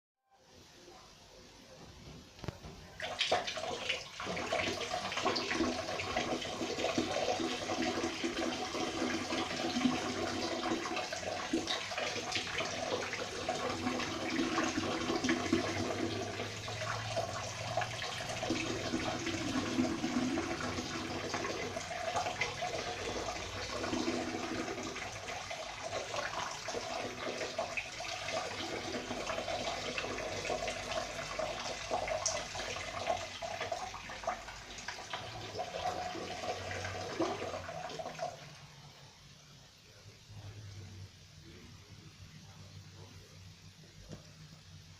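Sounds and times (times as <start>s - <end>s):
urine splashing into toilet water: 2.4s - 38.8s.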